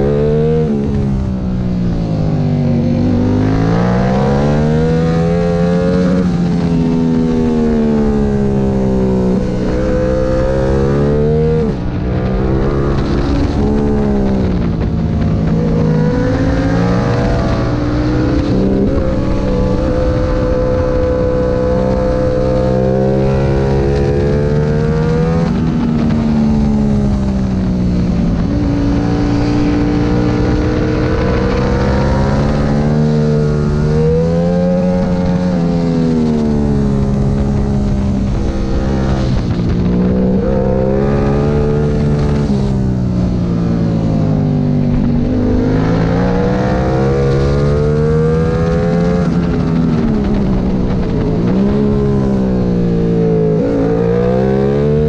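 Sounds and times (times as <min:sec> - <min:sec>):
wind rushing: 0:00.0 - 0:54.8
motorcycle engine racing: 0:00.0 - 0:55.0.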